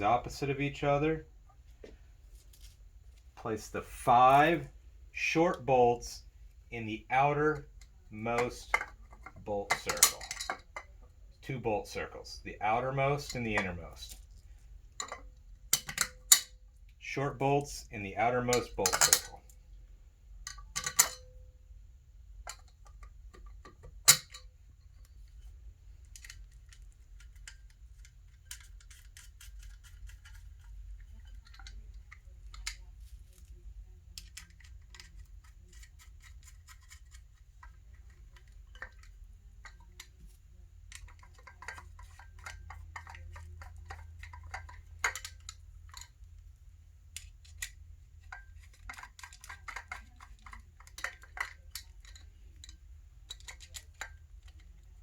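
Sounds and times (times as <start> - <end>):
low steady hum: 0.0 - 55.0
bolts and nuts clicking and rattling: 3.4 - 19.7, 20.3 - 21.6, 22.3 - 55.0.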